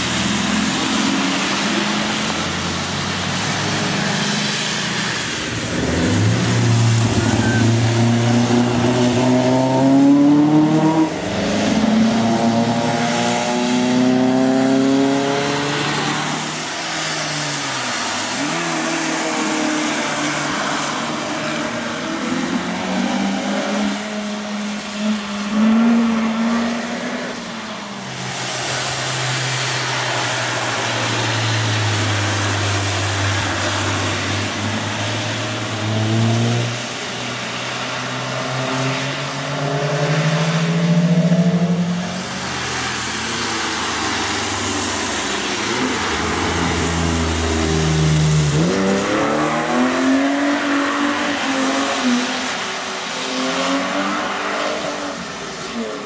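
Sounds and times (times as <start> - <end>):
race car engines passing: 0.0 - 56.0
tyres hissing on wet tarmac: 0.0 - 56.0.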